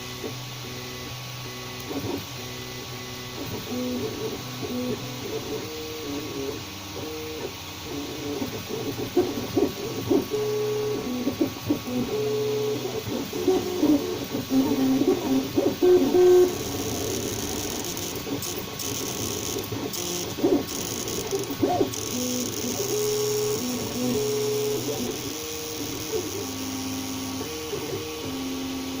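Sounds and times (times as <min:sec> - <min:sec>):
stepper motors humming: 0:00.0 - 0:29.0.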